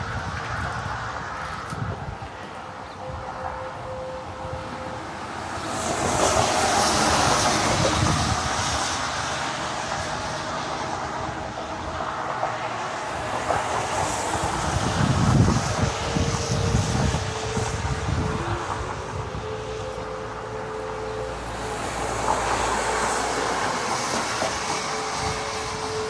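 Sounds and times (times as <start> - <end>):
outdoor rumbling and roaring: 0.0 - 26.0.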